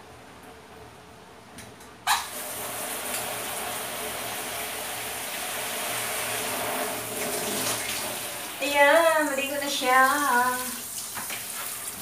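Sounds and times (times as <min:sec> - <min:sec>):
shower spraying into plastic basin: 0:02.1 - 0:12.0.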